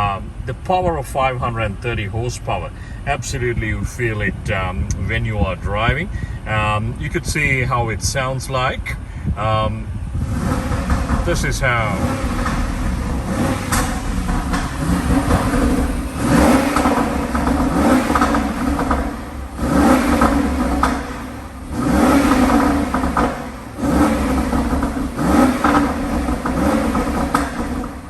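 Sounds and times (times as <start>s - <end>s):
car engine revving: 0.0s - 28.0s
exhaust pops: 0.0s - 28.0s.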